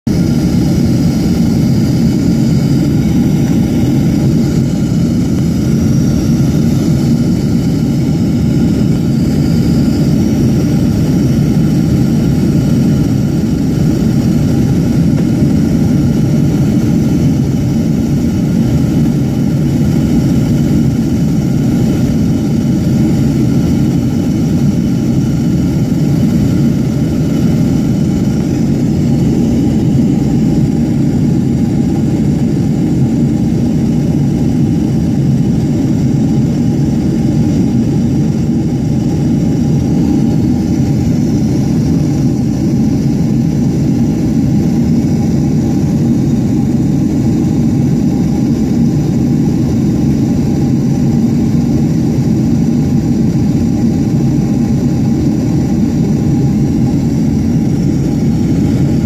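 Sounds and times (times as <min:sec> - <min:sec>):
jet airliner cabin noise: 0:00.1 - 0:59.0.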